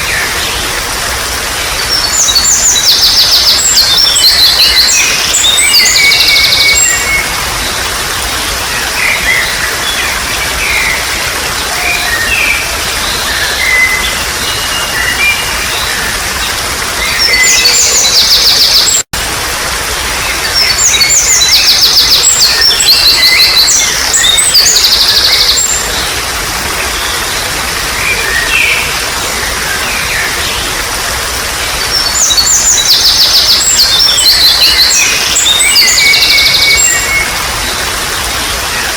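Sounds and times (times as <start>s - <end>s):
small birds chirping and trilling: 0.0s - 19.0s, 20.1s - 38.9s
water trickling: 0.0s - 38.9s.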